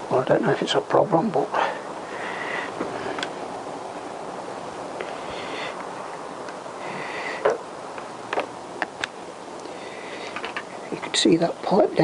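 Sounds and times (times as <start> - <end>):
steady rushing noise: 0.0 - 10.9.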